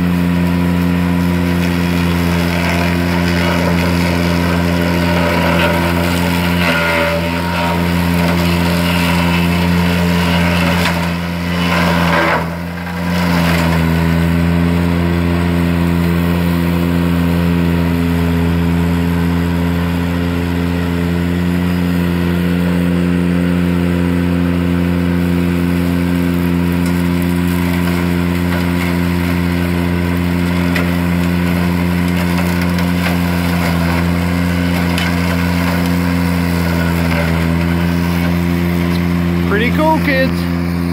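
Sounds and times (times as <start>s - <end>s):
mower cutting brush: 0.0s - 40.9s
tractor engine running: 0.0s - 40.9s.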